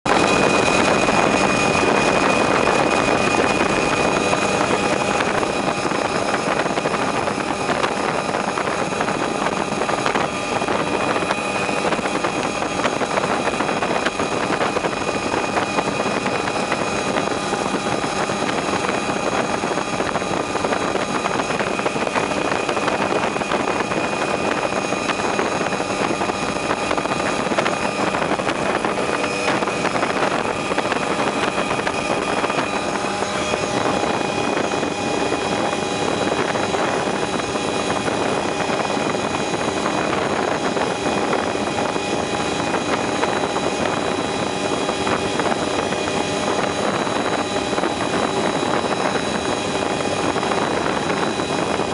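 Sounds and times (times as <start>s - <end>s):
helicopter engine and rotor: 0.0s - 51.9s
high whining tones: 0.1s - 51.9s.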